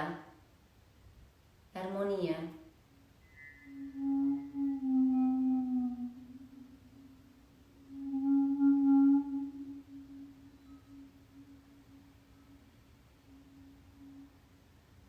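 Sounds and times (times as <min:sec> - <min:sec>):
faint steady hum: 0:00.0 - 0:15.0
low sustained musical tone: 0:02.8 - 0:15.0.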